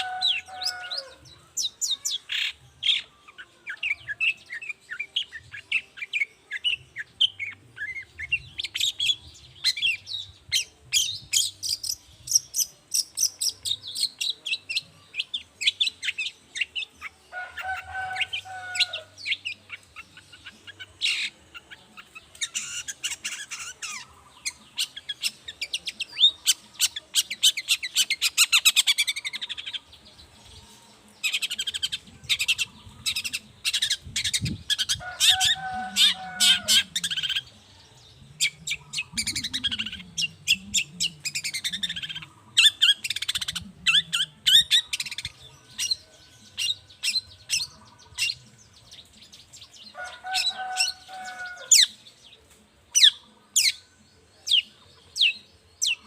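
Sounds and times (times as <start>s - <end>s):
bird chattering song with trills: 0.0s - 56.0s.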